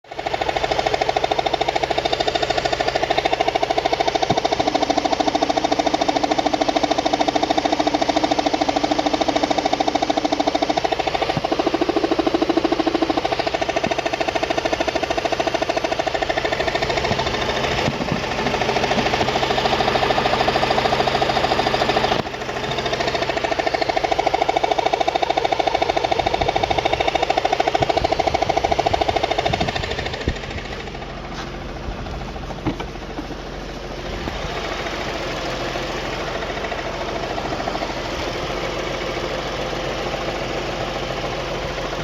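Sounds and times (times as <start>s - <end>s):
engine knocking: 0.0s - 42.0s.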